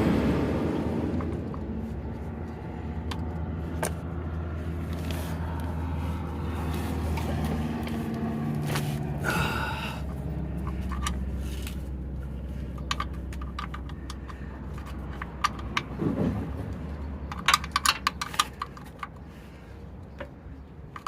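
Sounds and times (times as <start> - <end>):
low rumble: 0.0 - 17.2.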